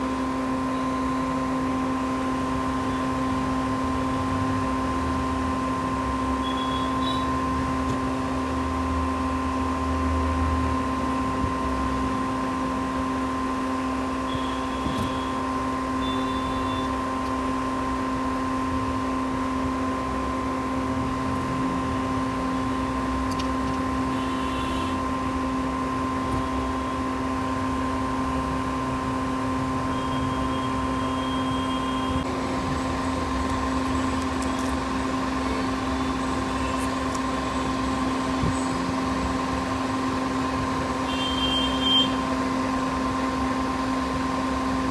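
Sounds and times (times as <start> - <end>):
machine hum: 0.0 - 44.9.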